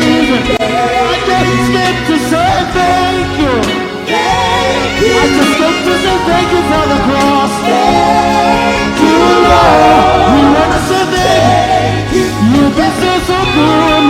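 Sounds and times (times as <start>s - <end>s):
keyboard and bass notes: 0.0s - 14.0s
person singing: 0.0s - 14.0s.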